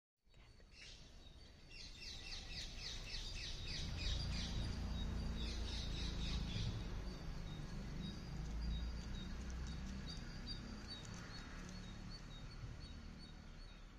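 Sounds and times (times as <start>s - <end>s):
birds chirping: 0.3s - 13.9s.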